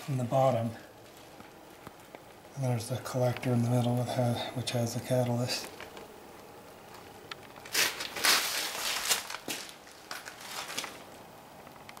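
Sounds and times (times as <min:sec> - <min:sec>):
rustling crinkling handling noise: 0:00.0 - 0:04.1, 0:05.2 - 0:12.0.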